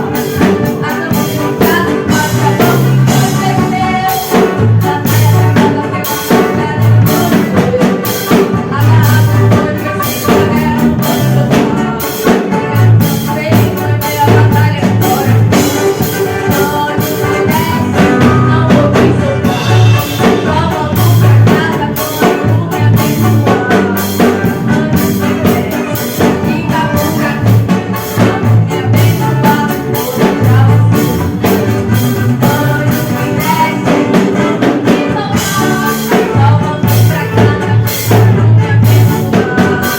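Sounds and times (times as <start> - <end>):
band playing a song: 0.0 - 39.9
drum kit steady beat: 0.0 - 39.9.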